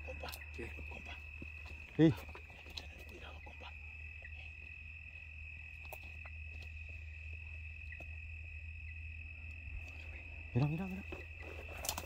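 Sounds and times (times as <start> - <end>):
low steady rumble: 0.0 - 11.8
crickets trilling: 0.0 - 12.0.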